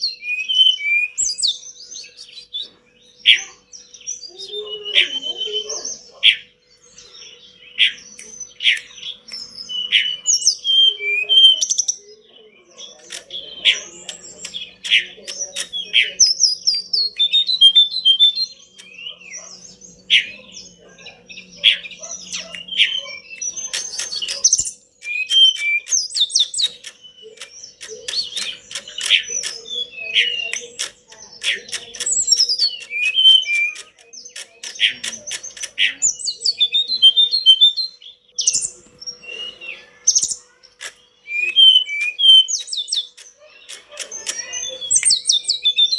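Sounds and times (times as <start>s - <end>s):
flycatcher singing: 0.0s - 45.9s.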